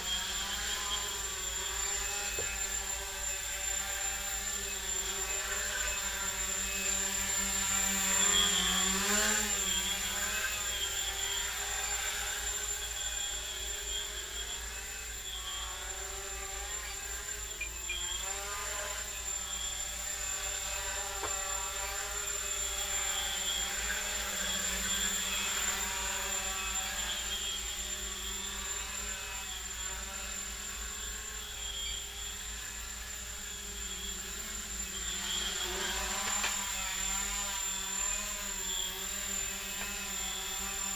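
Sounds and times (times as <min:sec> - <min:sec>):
drone motors buzzing: 0:00.0 - 0:40.9.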